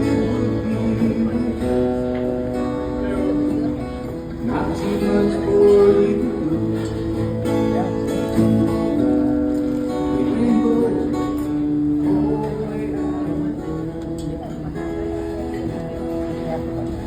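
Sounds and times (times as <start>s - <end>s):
acoustic guitar picked and strummed: 0.0s - 17.0s.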